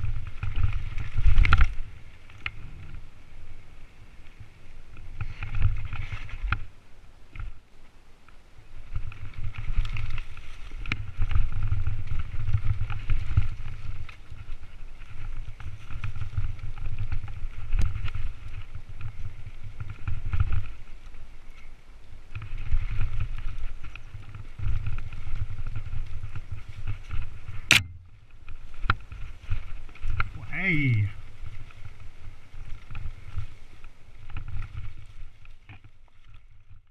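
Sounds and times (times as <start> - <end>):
bike rattling over ground: 0.0 - 7.6, 8.7 - 36.9
bike tyre noise: 0.0 - 36.9
wind rumble on microphone: 0.0 - 36.9.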